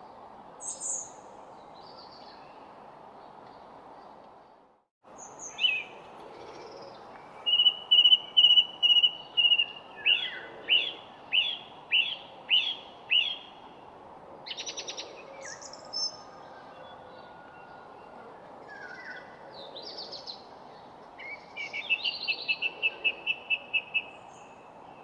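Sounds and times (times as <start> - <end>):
songbird singing: 0.6 - 25.0.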